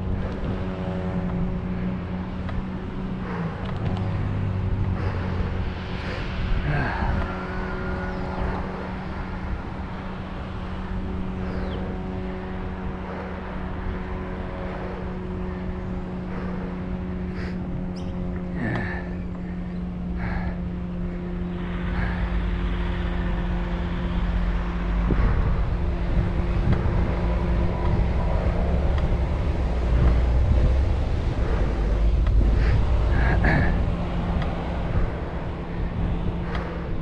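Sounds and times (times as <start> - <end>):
steady hum: 0.0 - 37.0
traffic: 0.0 - 37.0
wind and road rumble: 0.0 - 37.0.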